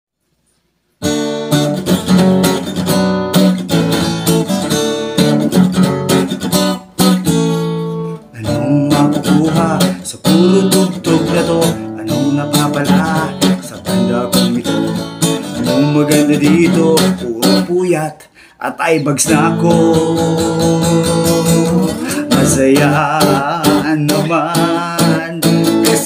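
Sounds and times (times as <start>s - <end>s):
acoustic guitar strumming: 1.0s - 26.0s.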